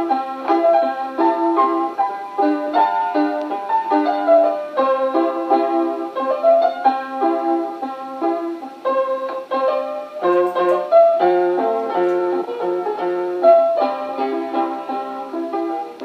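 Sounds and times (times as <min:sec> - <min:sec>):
keyboard melody over chords: 0:00.0 - 0:16.0.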